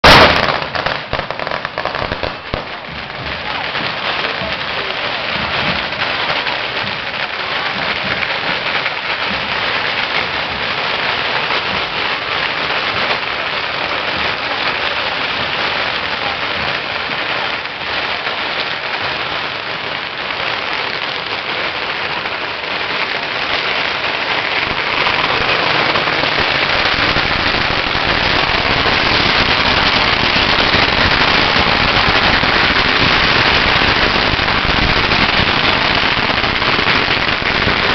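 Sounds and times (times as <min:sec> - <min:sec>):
fireworks hissing and crackling: 0:00.0 - 0:37.9.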